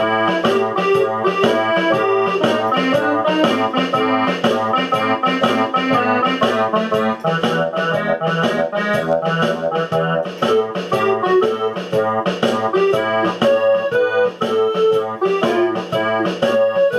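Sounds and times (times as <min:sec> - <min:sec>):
accordion-like keyboard notes: 0:00.0 - 0:16.9
bouncing bass line: 0:00.0 - 0:16.9.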